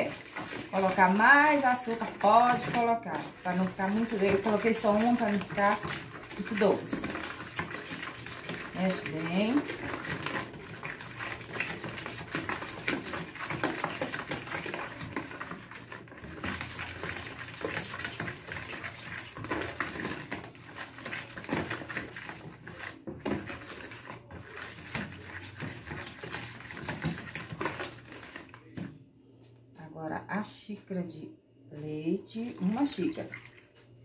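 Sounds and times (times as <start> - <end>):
wooden spoon beating batter: 0.0 - 29.0.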